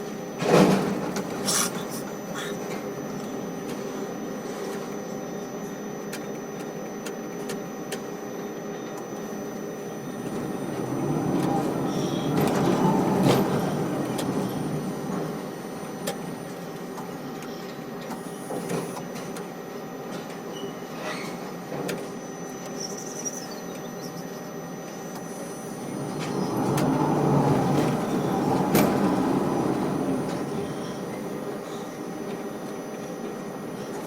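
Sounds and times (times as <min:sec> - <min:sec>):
crane machinery running: 0:00.0 - 0:34.0.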